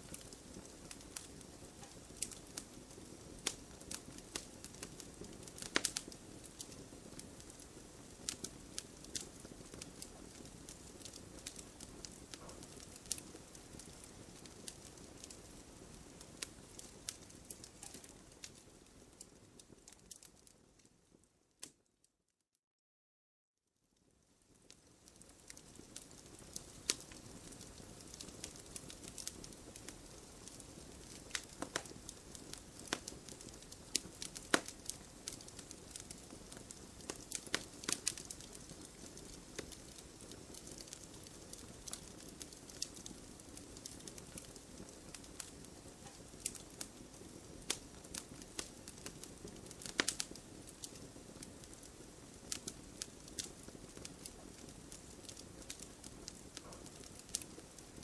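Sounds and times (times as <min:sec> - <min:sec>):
hiss of flames: 0:00.0 - 0:19.9, 0:25.2 - 0:58.0
bonfire crackling and popping: 0:00.0 - 0:21.8, 0:24.0 - 0:58.0.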